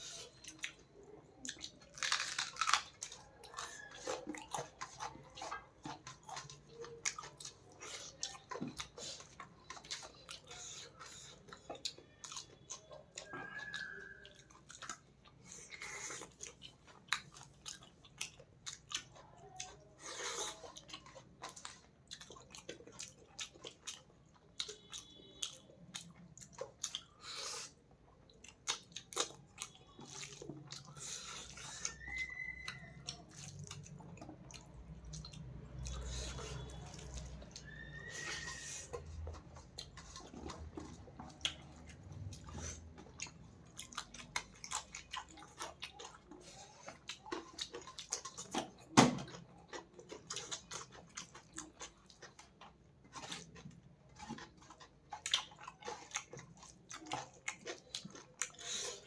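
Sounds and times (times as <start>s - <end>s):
chewing with lip smacks: 0.0s - 59.0s.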